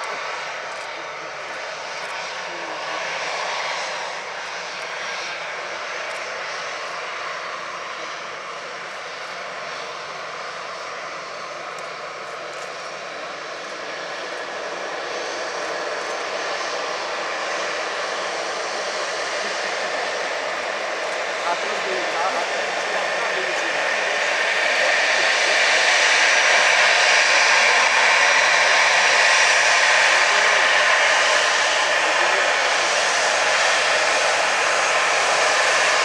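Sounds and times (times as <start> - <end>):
airliner engines running: 0.0 - 36.0.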